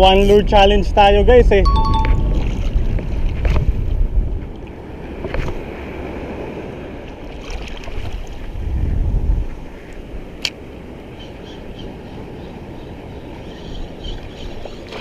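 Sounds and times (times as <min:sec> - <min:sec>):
sea surf: 0:00.0 - 0:15.0
wind buffeting microphone: 0:00.0 - 0:15.0.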